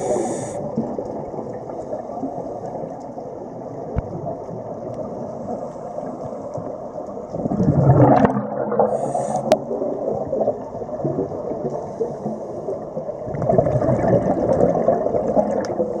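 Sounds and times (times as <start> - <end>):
muffled underwater bubbling: 0.0 - 16.0.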